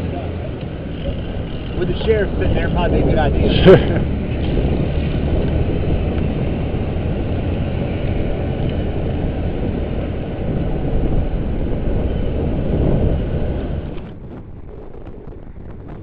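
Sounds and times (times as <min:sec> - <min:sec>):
wind rush on microphone: 0:00.0 - 0:16.0.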